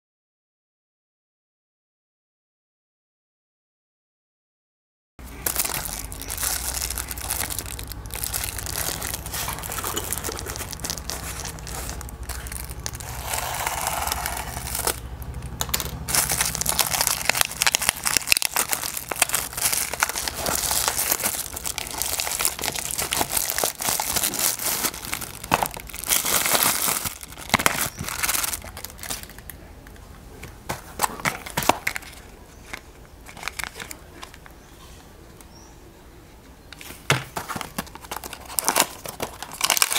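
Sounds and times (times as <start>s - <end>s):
packaging crinkling and tearing: 5.2s - 34.5s, 36.8s - 39.9s.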